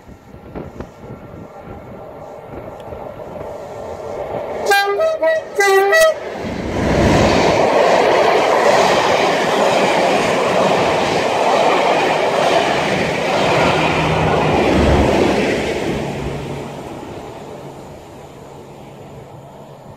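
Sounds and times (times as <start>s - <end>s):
train wheels on rail: 0.0s - 19.9s.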